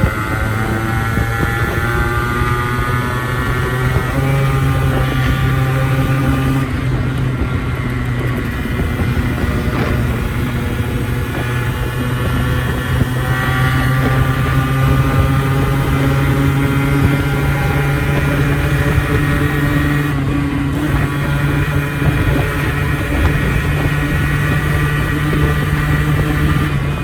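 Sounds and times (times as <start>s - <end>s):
two-stroke motorcycle engine running: 0.0s - 27.0s.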